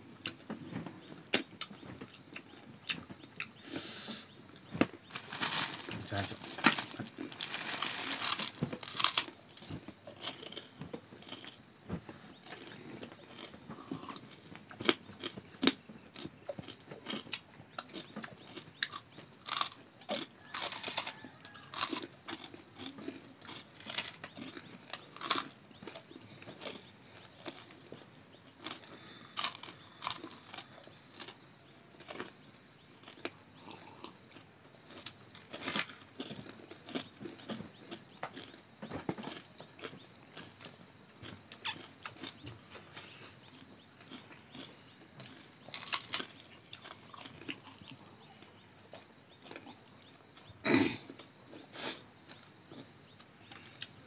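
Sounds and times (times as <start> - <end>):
chewing crunchy fried food: 0.2 - 54.0.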